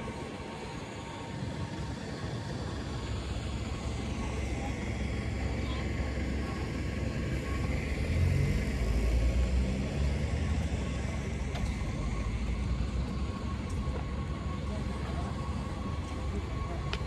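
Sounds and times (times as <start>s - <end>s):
outdoor street noise: 0.0s - 17.0s.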